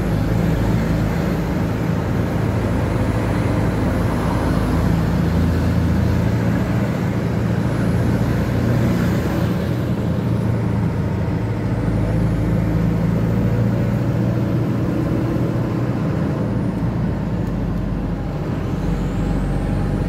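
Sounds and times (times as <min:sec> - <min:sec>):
car engine hum and road noise: 0:00.0 - 0:20.0.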